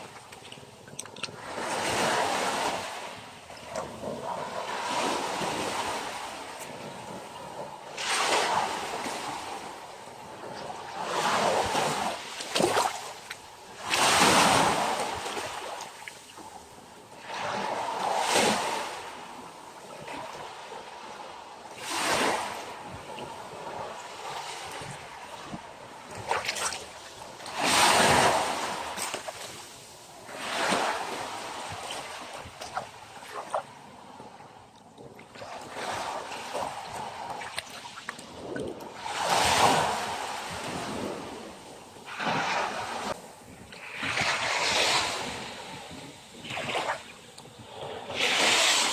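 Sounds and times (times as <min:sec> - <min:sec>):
ocean waves breaking: 0:00.0 - 0:34.6, 0:35.2 - 0:48.9.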